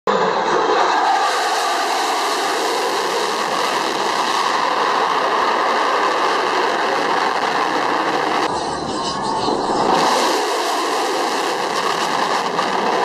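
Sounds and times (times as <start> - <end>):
jet afterburner roar: 0.1 - 13.0.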